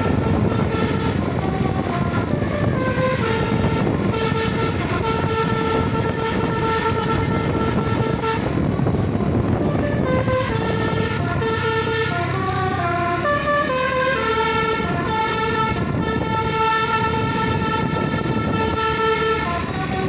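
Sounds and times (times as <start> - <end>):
bus multi-tone air horn melody: 0.0 - 20.0.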